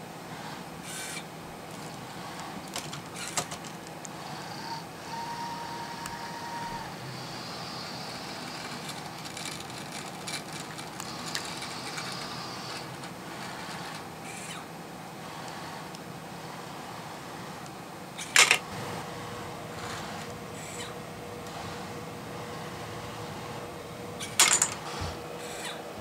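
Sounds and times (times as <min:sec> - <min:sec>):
motor whines: 0:00.3 - 0:14.7, 0:15.3 - 0:25.9
robotic arm motors whirring: 0:00.3 - 0:17.6, 0:18.2 - 0:25.8.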